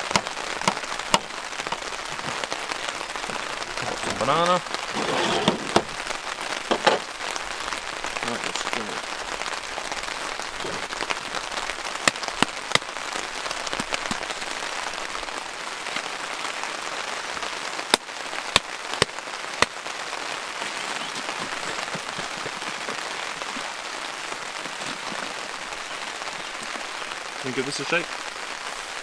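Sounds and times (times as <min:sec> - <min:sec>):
rain pattering on a tarp: 0:00.0 - 0:29.0.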